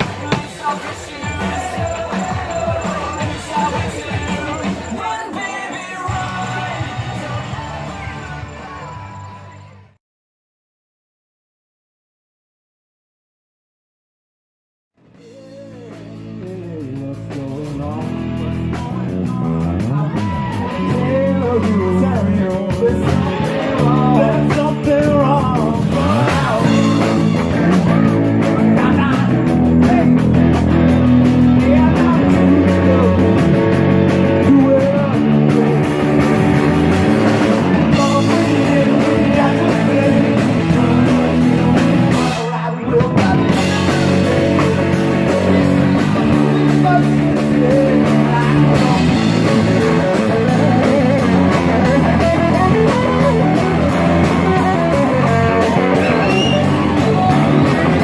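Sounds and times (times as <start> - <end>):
rock band with guitar: 0.0 - 10.0, 15.0 - 58.0.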